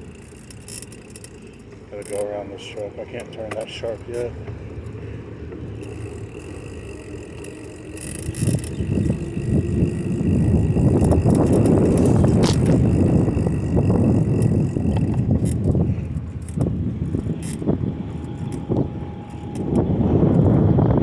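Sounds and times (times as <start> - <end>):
bicycle rolling over pavement: 0.0 - 21.0.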